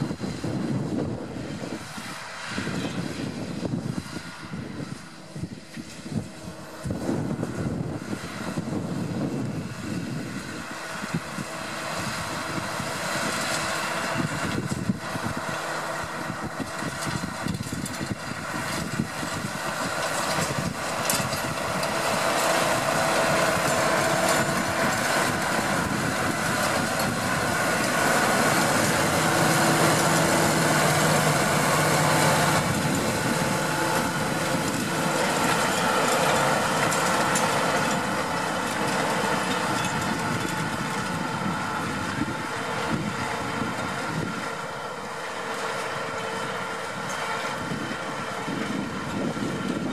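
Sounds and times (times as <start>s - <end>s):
tractor diesel engine under load: 0.0s - 49.9s.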